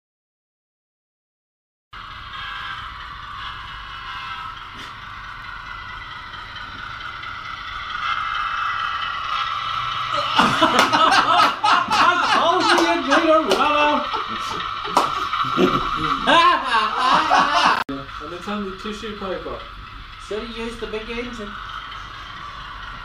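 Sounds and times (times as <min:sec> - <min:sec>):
model locomotive motor whine: 0:02.0 - 0:23.0
wheels on rails: 0:02.0 - 0:23.0.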